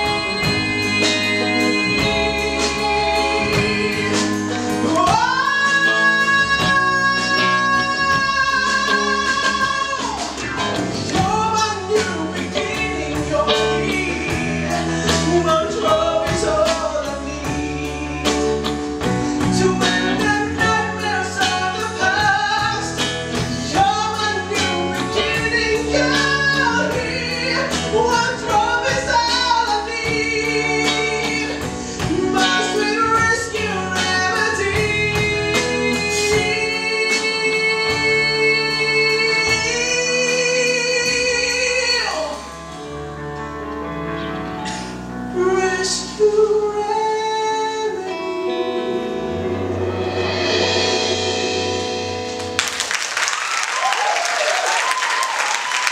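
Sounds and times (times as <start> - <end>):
man singing with vibrato: 0.0 - 42.9, 45.2 - 52.4
band with keyboard guitar and drums: 0.0 - 55.9.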